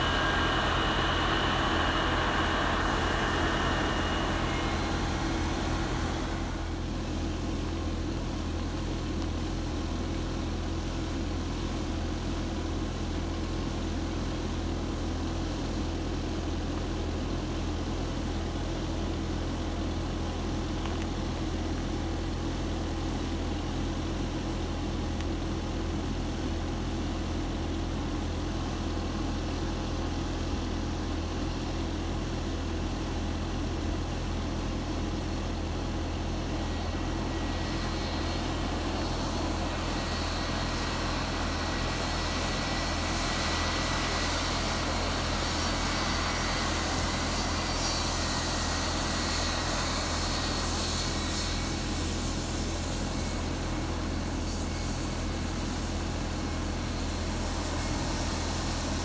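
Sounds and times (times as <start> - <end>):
jet engine roar with high whine: 0.0 - 59.0.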